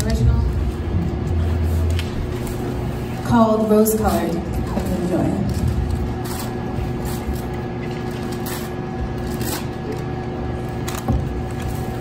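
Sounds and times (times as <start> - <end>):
faint electric hum: 0.0 - 12.0
low room rumble: 0.0 - 12.0.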